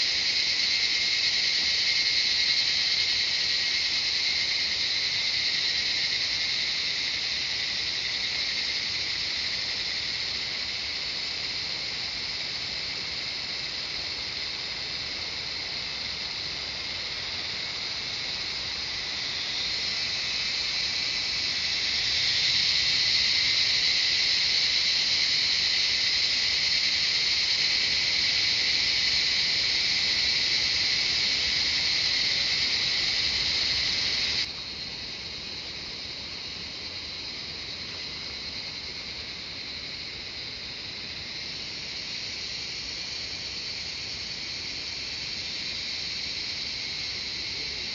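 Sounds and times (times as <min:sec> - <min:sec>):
cicadas buzzing: 0:00.0 - 0:47.9
faint hiss: 0:00.0 - 0:47.9.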